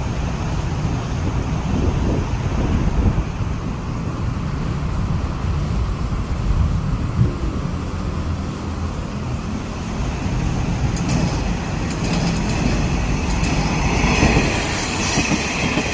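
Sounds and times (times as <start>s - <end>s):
diesel railcar rumbling: 0.0s - 15.9s.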